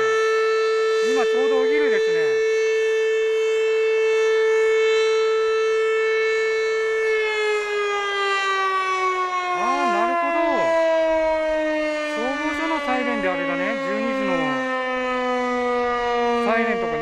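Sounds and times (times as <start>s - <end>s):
outdoor siren tone: 0.0s - 17.0s.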